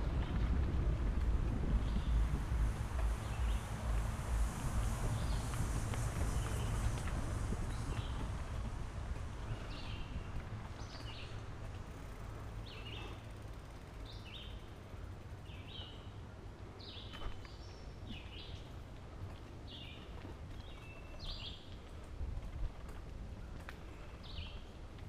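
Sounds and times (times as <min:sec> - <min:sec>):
bike tyres rumbling on dirt trail: 0:00.0 - 0:25.0.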